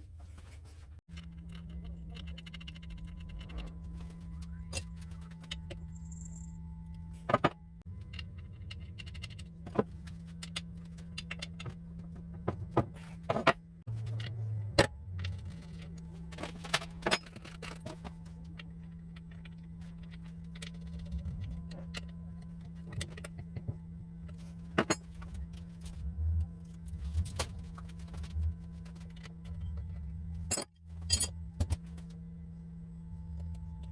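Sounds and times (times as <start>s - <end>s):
steady low hum: 0.0s - 33.9s
metal parts and tools clinking: 1.1s - 26.0s, 26.6s - 32.2s.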